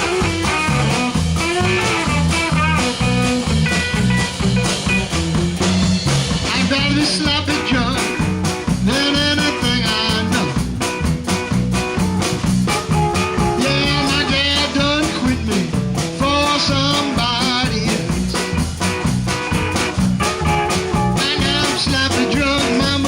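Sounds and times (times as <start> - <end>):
live blues band playing: 0.0 - 23.0.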